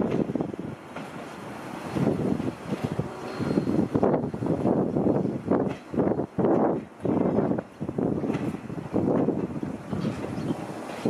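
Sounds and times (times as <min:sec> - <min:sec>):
train carriages rumbling past: 0:00.0 - 0:11.0
wind buffeting microphone: 0:00.0 - 0:11.0.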